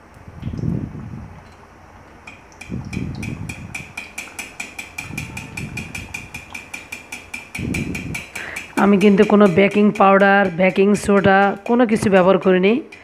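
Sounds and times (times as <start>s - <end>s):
frying in hot oil: 1.2s - 13.0s
skimmer working the oil: 2.2s - 13.0s
rapid regular clicking: 2.3s - 13.0s.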